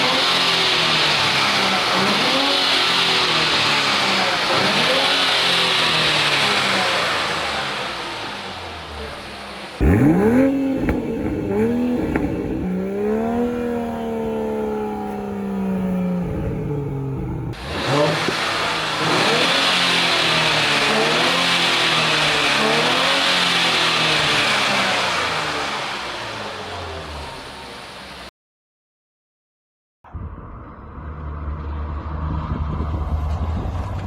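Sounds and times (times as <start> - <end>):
sports car engine revving: 0.0 - 27.5.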